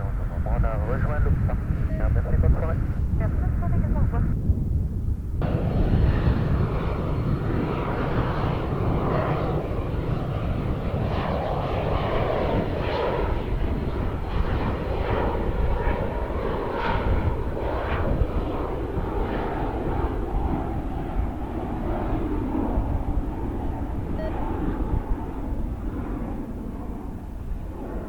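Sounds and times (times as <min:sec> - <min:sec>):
jet engines roaring: 0:00.0 - 0:04.4, 0:05.0 - 0:28.0.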